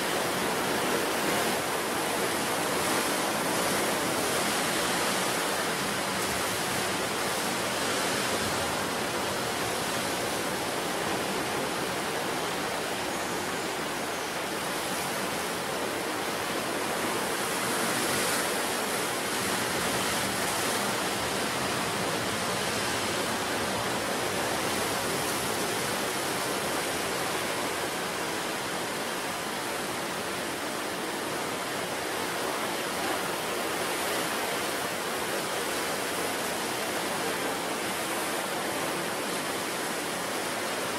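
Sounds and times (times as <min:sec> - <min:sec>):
ocean surf washing ashore: 0:00.0 - 0:40.9.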